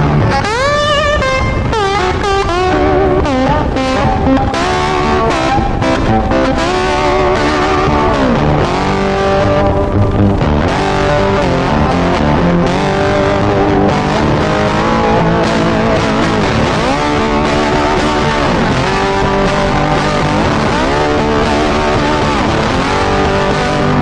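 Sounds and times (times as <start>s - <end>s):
guitar-led music: 0.0s - 24.0s.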